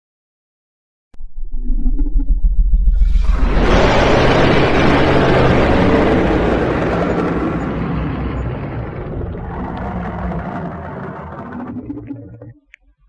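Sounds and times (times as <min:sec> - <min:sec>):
rough rushing rumble: 0:01.2 - 0:12.6.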